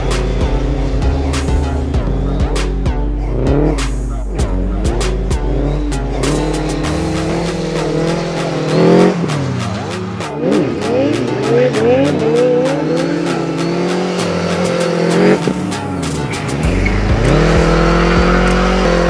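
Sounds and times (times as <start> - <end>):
background music with beat: 0.0 - 19.0
motorcycle engine revving: 0.0 - 19.0.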